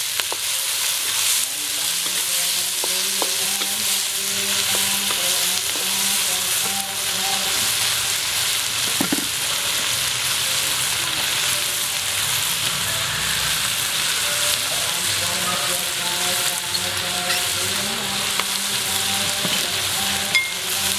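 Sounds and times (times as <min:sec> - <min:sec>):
vegetables sizzling in a wok: 0:00.0 - 0:20.9.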